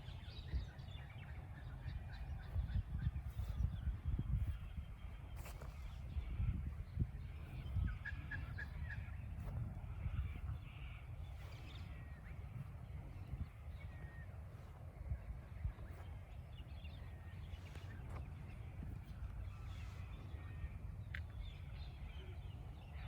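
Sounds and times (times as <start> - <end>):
cockatoos and birds calling: 0.0 - 23.0
steady low rumble: 0.0 - 23.0.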